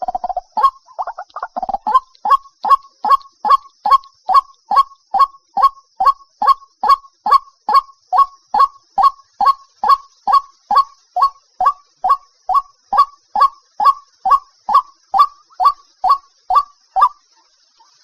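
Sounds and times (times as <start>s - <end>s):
faint high hiss: 0.0s - 18.0s.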